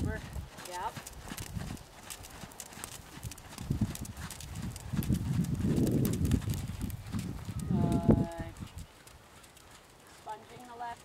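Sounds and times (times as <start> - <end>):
horse hoofbeats on sand: 0.0 - 11.0.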